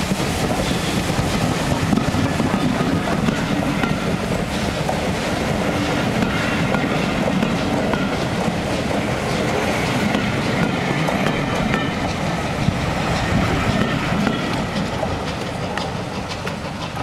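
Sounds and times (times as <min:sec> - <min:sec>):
train wheels rumbling on rail: 0:00.0 - 0:17.0
wheels clacking over rail joint: 0:00.4 - 0:17.0.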